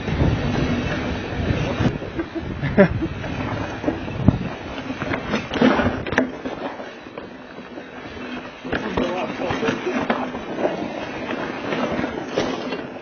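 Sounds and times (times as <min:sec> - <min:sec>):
bike rattling: 0:00.0 - 0:13.0
tyres rumbling over dirt and rocks: 0:00.0 - 0:13.0.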